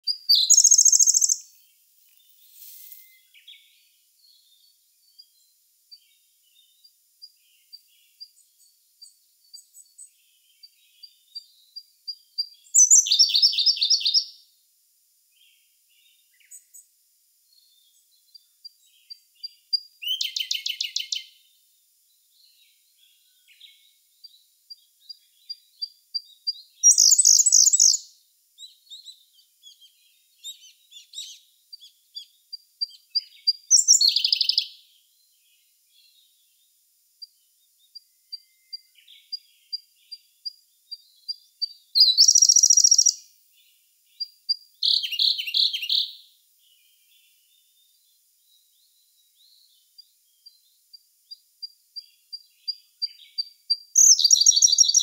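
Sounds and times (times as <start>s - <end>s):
bird song with rapid trill: 0.0s - 14.6s, 15.2s - 55.0s.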